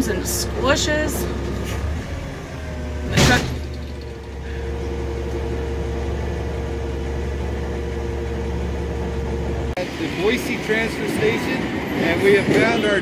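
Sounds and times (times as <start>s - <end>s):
hydraulic whine: 0.0s - 11.9s
diesel engine running: 0.0s - 13.0s.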